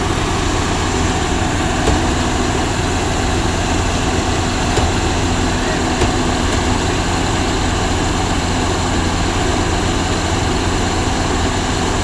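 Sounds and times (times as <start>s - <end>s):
harvester engine humming: 0.0s - 12.0s.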